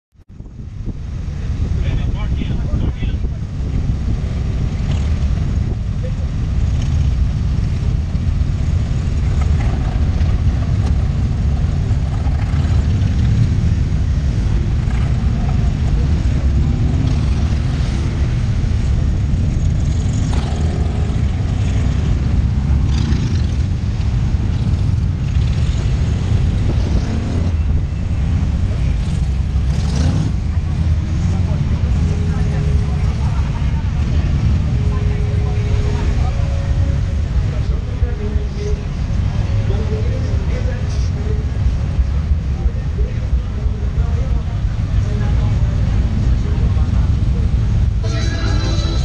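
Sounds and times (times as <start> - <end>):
motorcycle engines rumbling: 0.2 - 49.0.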